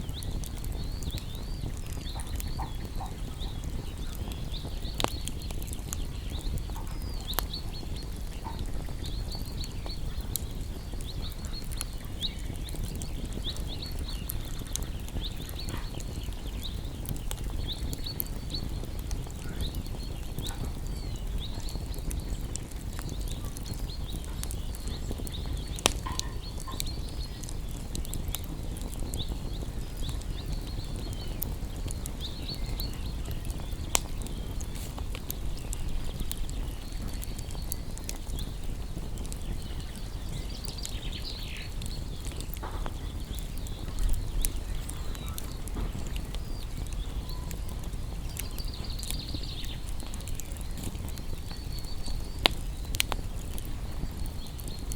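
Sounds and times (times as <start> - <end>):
campfire crackling: 0.0 - 54.9
sharp pops of burning wood: 0.0 - 54.9.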